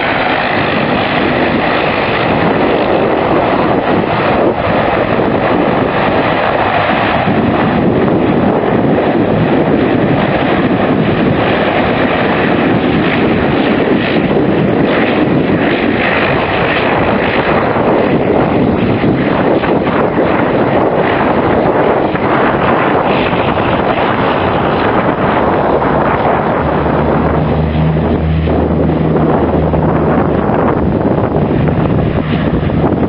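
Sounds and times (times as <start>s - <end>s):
turboprop engines running: 0.0s - 33.0s
wind buffeting microphone: 0.0s - 33.0s.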